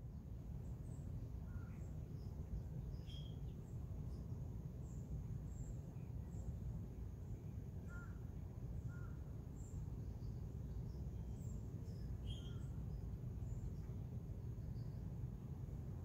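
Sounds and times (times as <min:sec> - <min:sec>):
faint bird chirps: 0:00.6 - 0:15.1.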